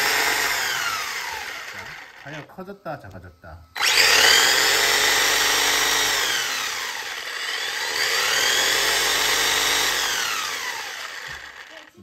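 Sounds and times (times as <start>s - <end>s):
electric motor whining: 0.0s - 2.5s, 3.2s - 12.0s.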